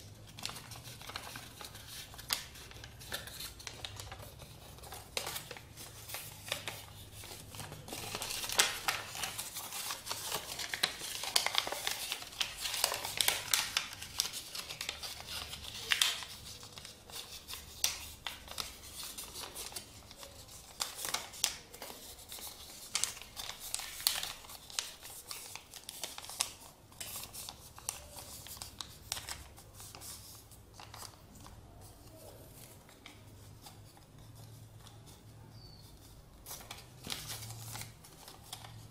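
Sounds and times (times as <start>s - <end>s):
paper rustling and creasing: 0.0s - 38.9s.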